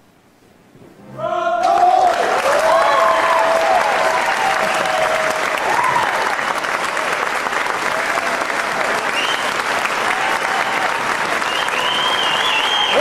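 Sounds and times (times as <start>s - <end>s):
audience applauding: 1.6s - 13.0s.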